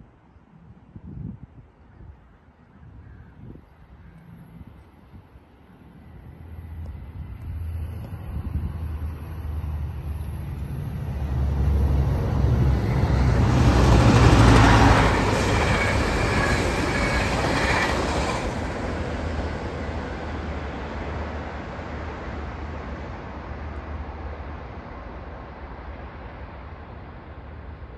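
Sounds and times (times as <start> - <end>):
train rumbling past: 3.6 - 27.9
wheels rushing on rails: 4.5 - 27.9.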